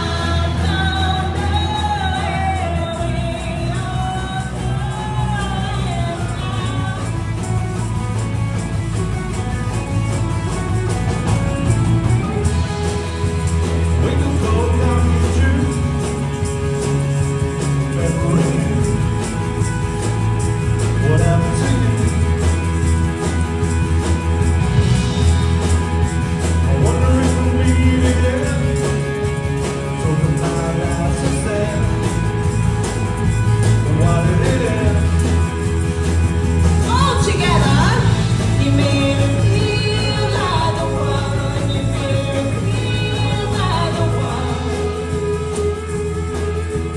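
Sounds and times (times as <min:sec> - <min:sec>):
live band playing: 0:00.0 - 0:46.9.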